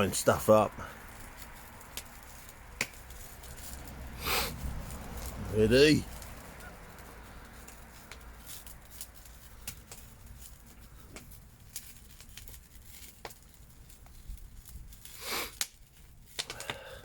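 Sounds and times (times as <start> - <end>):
fire crackling in metal bin: 0.0 - 17.0.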